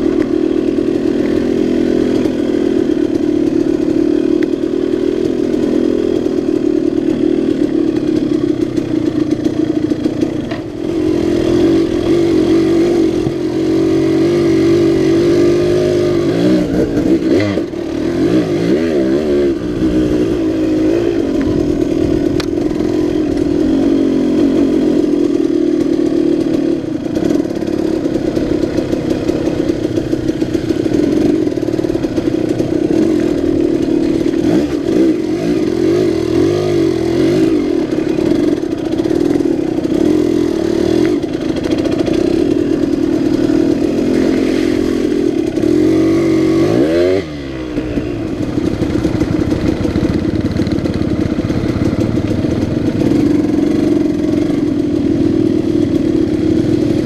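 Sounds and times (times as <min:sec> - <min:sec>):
two-stroke motorcycle engine: 0:00.0 - 0:57.0.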